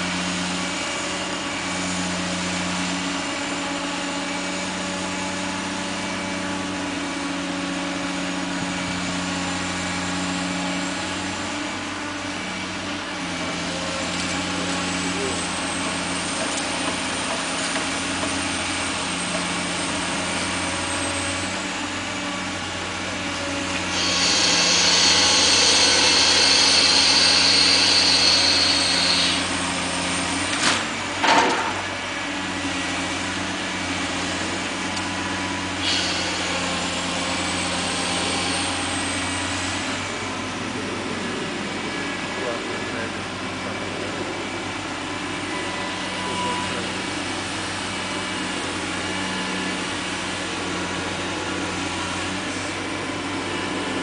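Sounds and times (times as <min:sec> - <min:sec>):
diesel engine running: 0:00.0 - 0:54.0
high hydraulic whine: 0:02.4 - 0:54.0.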